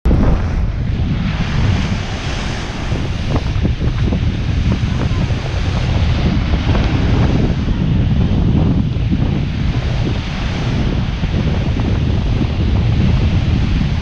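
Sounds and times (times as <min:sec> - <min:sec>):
wind buffeting microphone: 0:00.0 - 0:14.0
waves washing: 0:00.1 - 0:14.0.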